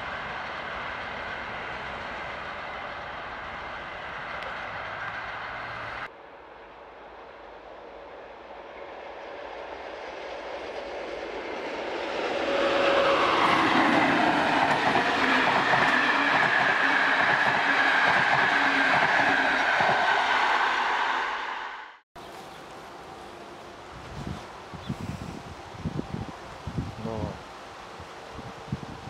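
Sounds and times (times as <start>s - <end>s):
locomotive high whine: 0.0s - 29.0s.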